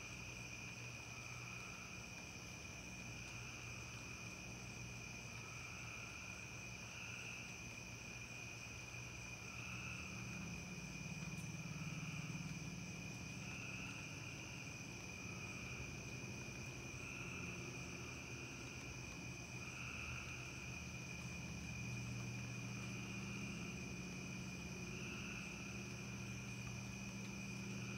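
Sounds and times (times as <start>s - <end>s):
lower insect call: 0.0s - 27.9s
night insects trilling: 0.0s - 27.9s
faint low hum: 0.7s - 27.9s.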